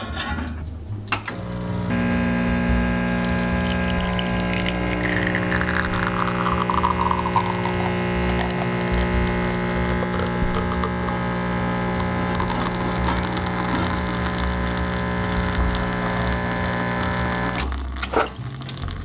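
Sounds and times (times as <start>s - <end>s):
espresso machine pump humming: 1.3s - 17.7s.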